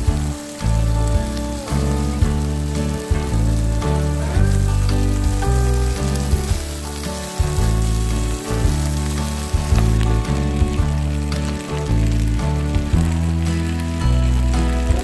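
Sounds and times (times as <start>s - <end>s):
instrumental background music: 0.0s - 15.0s
meat sizzling in a frying pan: 0.0s - 15.0s.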